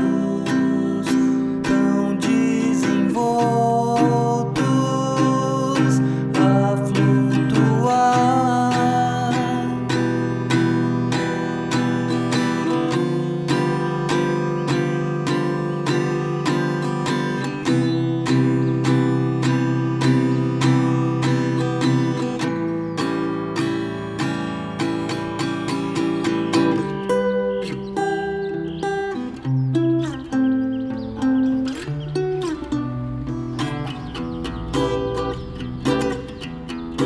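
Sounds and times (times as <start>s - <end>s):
acoustic guitar strummed: 0.0s - 37.0s.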